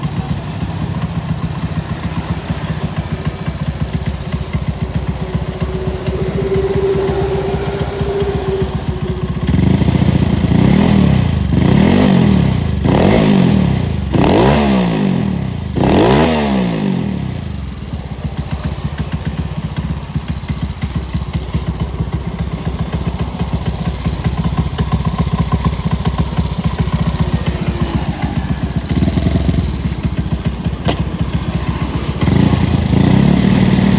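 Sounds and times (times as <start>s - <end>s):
scooter engine idling and revving: 0.0s - 33.9s.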